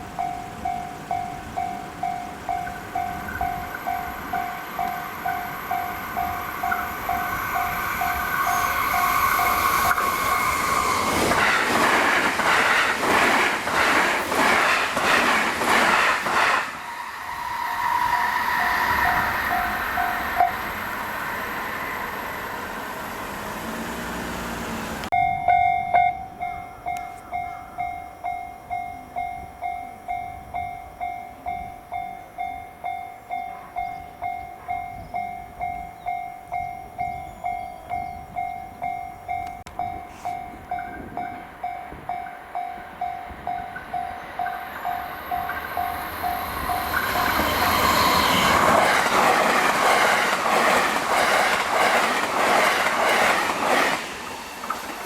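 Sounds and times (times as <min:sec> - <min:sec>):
train passing at speed: 0:00.0 - 0:55.0
train running: 0:00.0 - 0:55.0.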